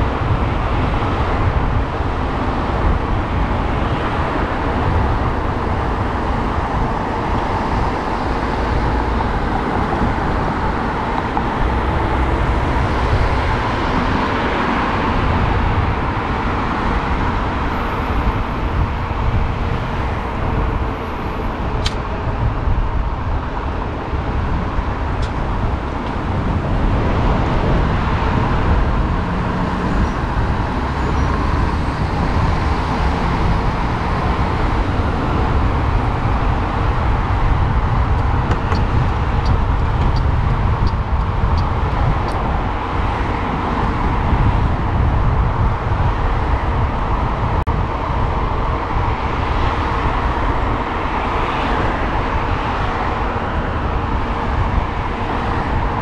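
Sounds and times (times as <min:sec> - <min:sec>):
road traffic rushing: 0:00.0 - 0:56.0.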